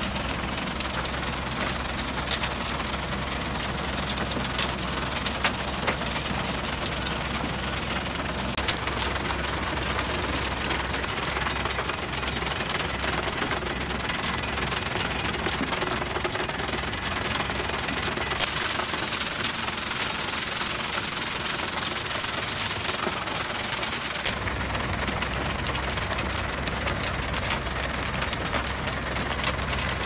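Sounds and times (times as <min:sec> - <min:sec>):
engine hum: 0:00.0 - 0:30.0.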